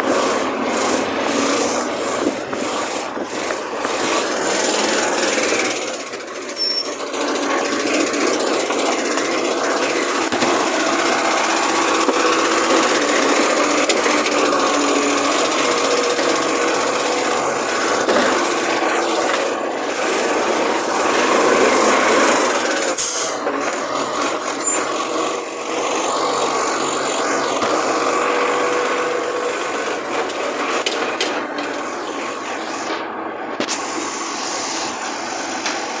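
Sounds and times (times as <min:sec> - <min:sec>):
garbage truck engine running: 0:00.0 - 0:36.0.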